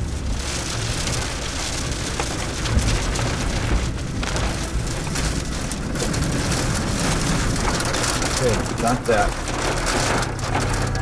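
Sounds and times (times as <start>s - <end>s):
wind buffeting: 0.0s - 10.9s
rain hissing: 0.0s - 11.0s.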